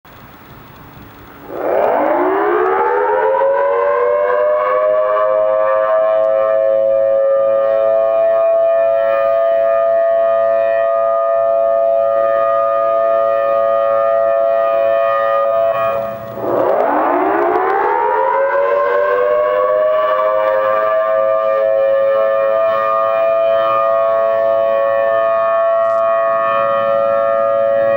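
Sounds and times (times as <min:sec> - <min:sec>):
outdoor warning siren wail: 0:01.0 - 0:27.9.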